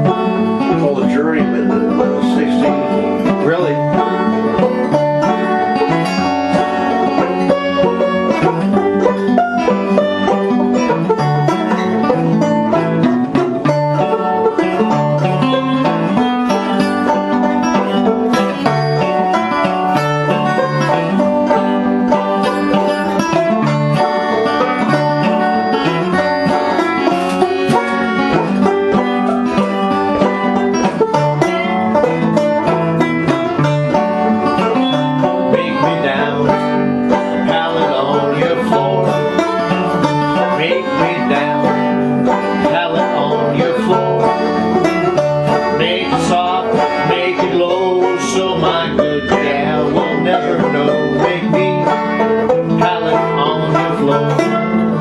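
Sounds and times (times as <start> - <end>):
fingerpicked acoustic guitar blues: 0.0 - 55.0.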